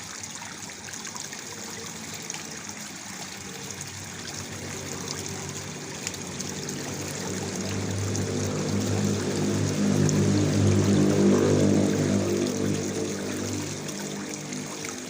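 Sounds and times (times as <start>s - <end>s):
low engine-like hum: 0.1s - 15.0s
waterfall splashing: 2.9s - 15.0s.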